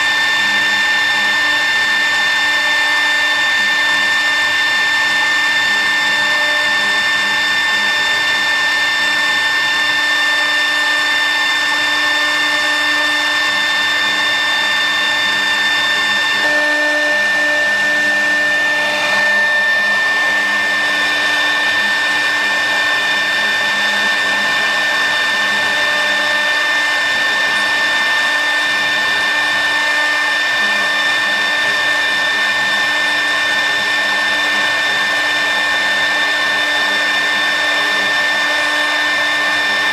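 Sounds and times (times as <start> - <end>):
router spindle whine: 0.0 - 39.9
wood cutting noise: 0.0 - 39.9.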